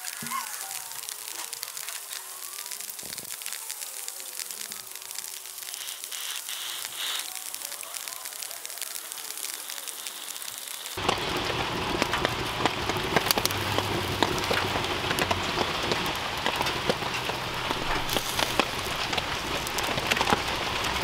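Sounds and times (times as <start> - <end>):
raindrops ticking on hard surfaces: 0.0 - 21.0
steady rain falling: 0.0 - 21.0.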